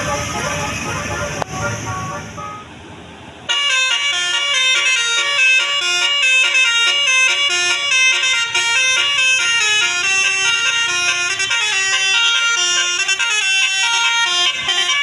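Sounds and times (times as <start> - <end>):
bus horn playing a melody: 0.0 - 2.8, 3.5 - 15.0.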